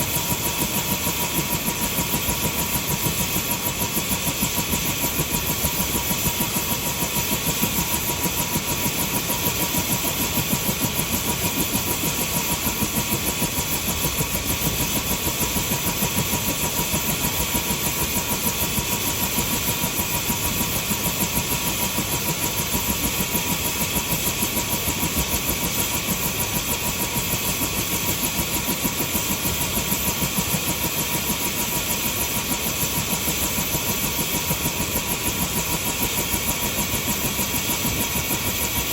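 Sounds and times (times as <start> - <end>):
helicopter engine whine: 0.0 - 38.9.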